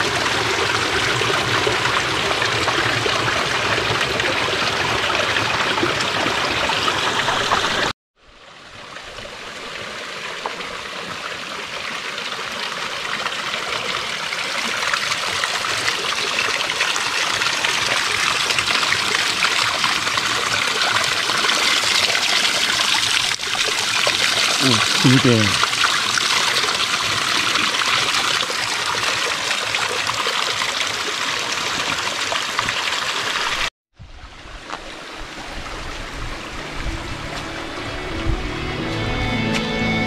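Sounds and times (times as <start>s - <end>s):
water trickling over rocks: 0.0s - 37.9s.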